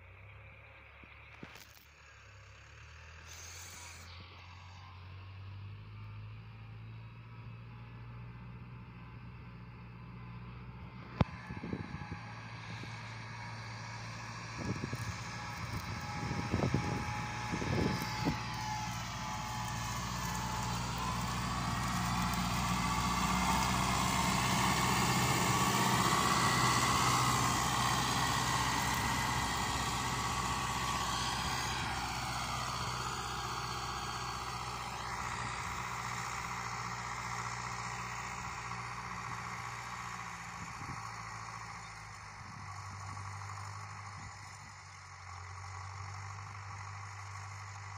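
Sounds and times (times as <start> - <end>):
tractor diesel engine: 0.0 - 47.9.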